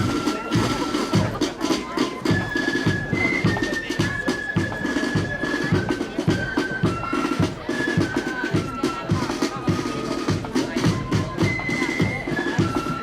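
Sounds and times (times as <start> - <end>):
flutes playing melody: 0.0 - 13.0
snare drums: 0.0 - 13.0.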